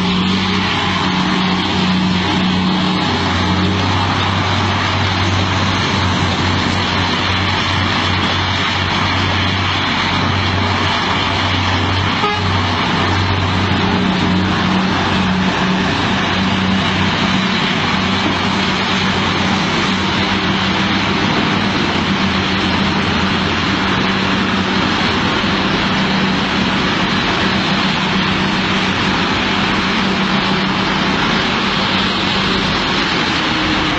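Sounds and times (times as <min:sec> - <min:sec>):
heavy diesel truck engine drone: 0:00.0 - 0:33.9.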